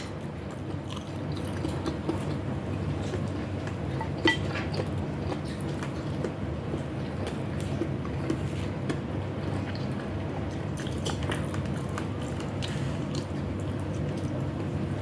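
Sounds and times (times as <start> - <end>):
low background hum: 0.0 - 15.0
person chewing food: 0.0 - 15.0.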